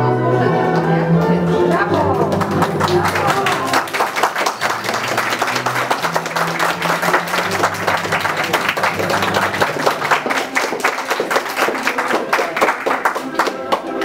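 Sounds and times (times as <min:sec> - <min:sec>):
people applauding: 0:02.0 - 0:14.0.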